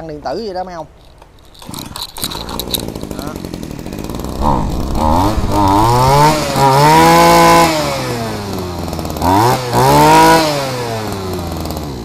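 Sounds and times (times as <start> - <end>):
small petrol engine revving: 1.5 - 12.0.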